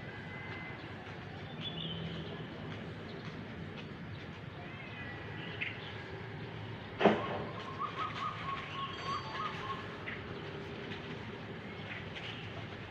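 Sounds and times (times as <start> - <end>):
city noise hum: 0.0 - 12.9.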